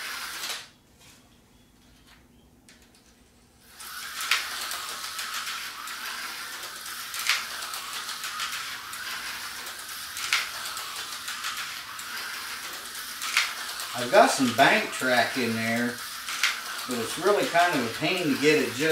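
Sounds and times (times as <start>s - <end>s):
slot car motor whirring: 0.0s - 0.7s, 3.6s - 18.9s.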